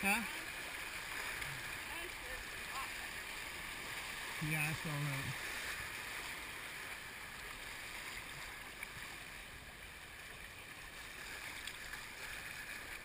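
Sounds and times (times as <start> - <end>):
river water rushing: 0.0 - 13.0
faint paddle splashes: 0.3 - 13.0.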